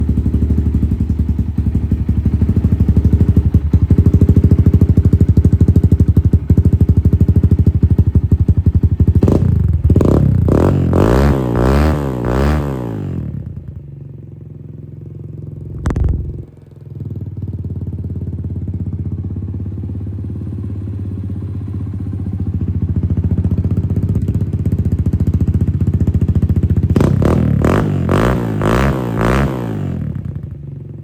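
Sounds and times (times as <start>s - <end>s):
dirt bike engine revving and idling: 0.0s - 31.0s.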